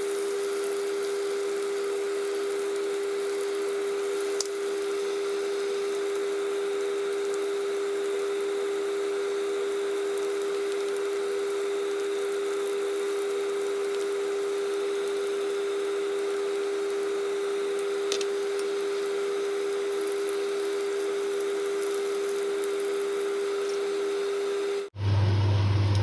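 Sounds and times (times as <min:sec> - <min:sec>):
chicken sizzling in oil: 0:00.0 - 0:25.8
constant hum: 0:00.0 - 0:26.0.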